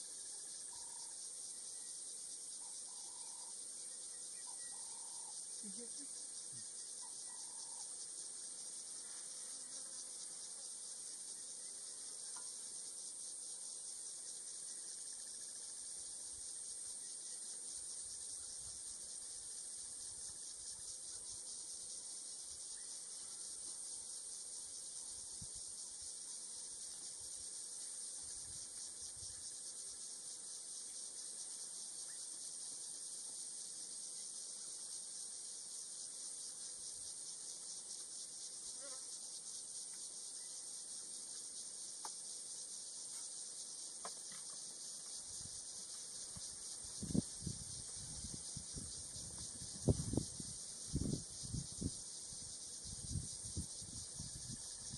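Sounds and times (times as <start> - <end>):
insect chorus buzzing: 0.0 - 54.9.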